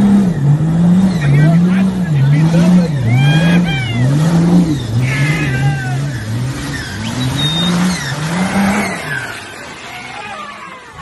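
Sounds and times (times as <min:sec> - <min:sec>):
buggy churning through water and mud: 0:00.0 - 0:11.0
buggy engine revving: 0:00.0 - 0:11.0.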